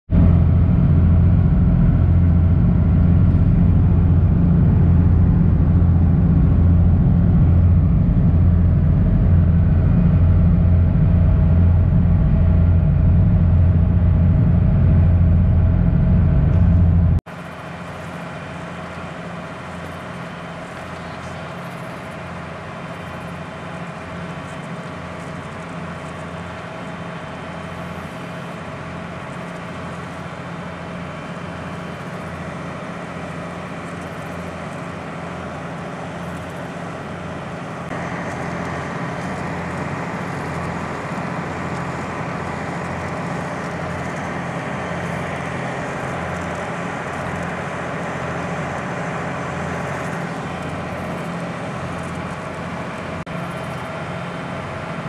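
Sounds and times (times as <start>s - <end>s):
ferry engine drone: 0.1s - 55.0s
wind: 0.1s - 55.0s.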